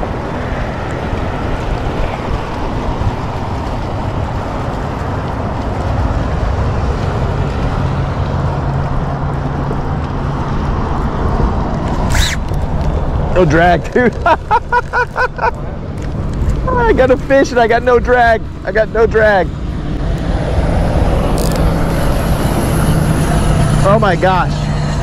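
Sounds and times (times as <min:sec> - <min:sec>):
boat low rumble: 0:00.0 - 0:25.0
low engine hum: 0:00.0 - 0:25.0
wind noise: 0:00.0 - 0:25.0.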